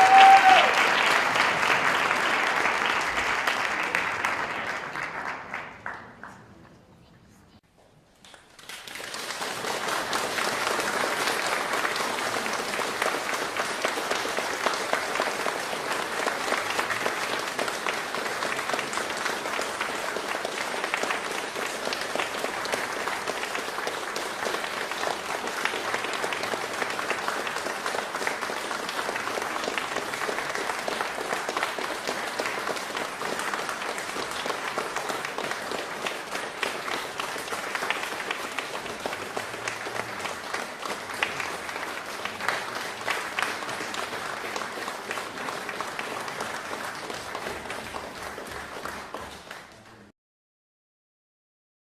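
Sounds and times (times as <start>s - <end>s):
crowd applauding: 0.0s - 6.8s, 8.2s - 50.1s.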